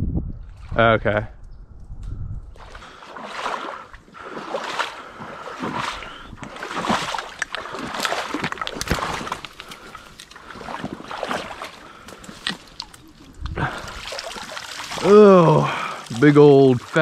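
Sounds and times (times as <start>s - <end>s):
footsteps wading through water: 2.5s - 17.0s.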